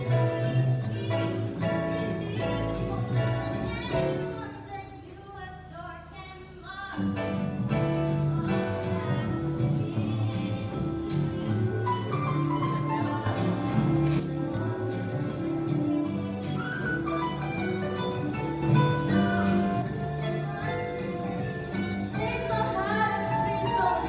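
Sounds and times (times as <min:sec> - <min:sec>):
acoustic guitar: 0:00.0 - 0:04.6, 0:06.8 - 0:24.0.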